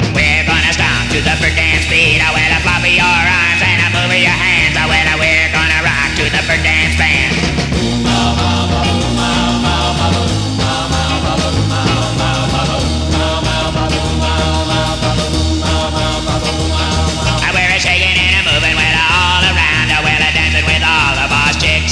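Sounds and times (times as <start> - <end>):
instrumental rock and roll music: 0.0 - 21.9.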